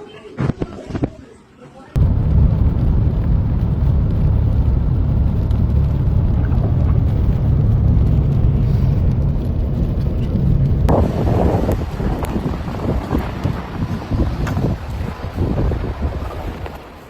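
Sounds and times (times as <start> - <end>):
blizzard wind buffeting microphone: 2.0 - 17.0.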